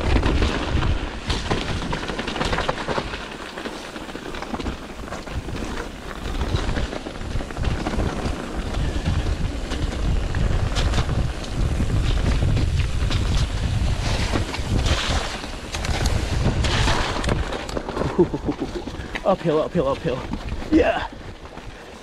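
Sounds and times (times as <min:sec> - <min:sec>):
bike clicks and rattles: 0:00.0 - 0:22.0
tyres rushing on wet dirt: 0:00.0 - 0:22.0
wind noise on microphone: 0:00.0 - 0:22.0.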